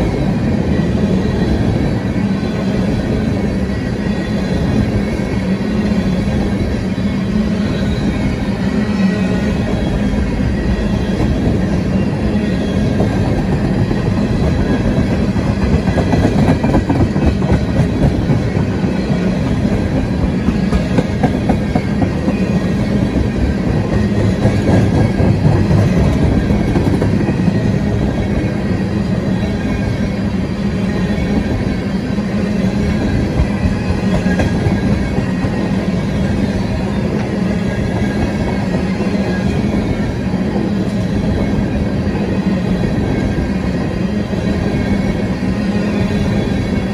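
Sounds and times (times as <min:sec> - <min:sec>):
freight train wheels rumbling and clacking: 0:00.0 - 0:46.9.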